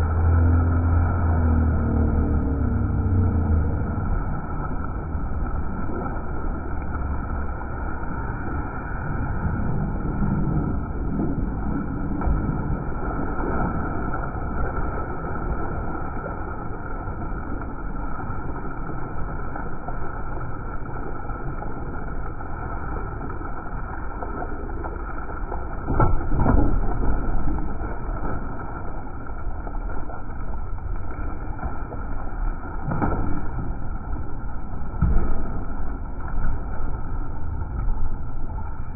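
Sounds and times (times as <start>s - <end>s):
boat engine rumble: 0.0s - 38.9s
water washing around boat: 0.0s - 38.9s.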